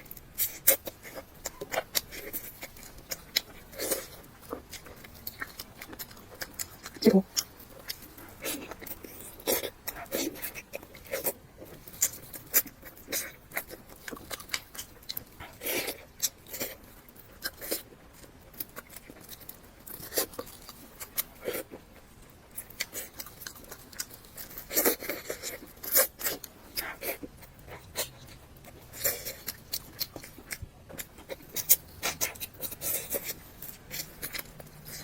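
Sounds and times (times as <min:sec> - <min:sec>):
chewing and biting meat: 0:00.0 - 0:35.0.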